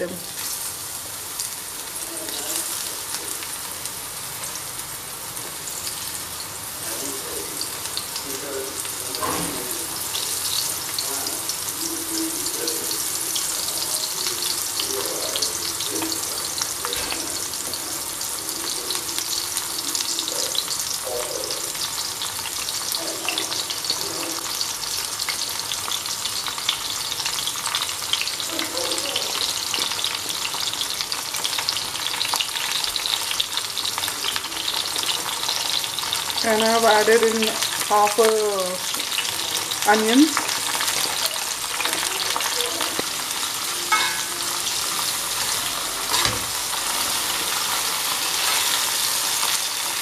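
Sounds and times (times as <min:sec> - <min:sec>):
mushrooms sizzling in hot oil: 0:00.0 - 0:50.0.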